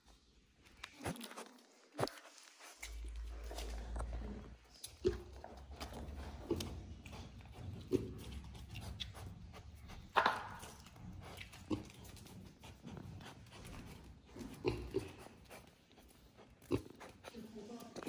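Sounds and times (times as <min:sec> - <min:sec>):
pig grunting and snuffling: 0:02.0 - 0:18.0.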